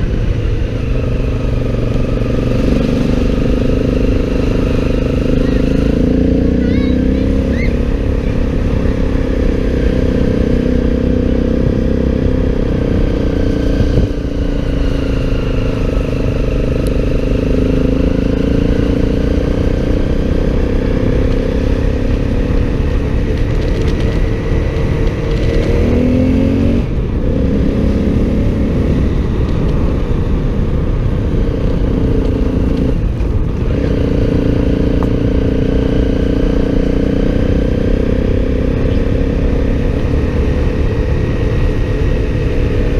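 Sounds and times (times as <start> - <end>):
constant low rumble: 0.0 - 42.9
motorcycle engine running: 0.0 - 42.9.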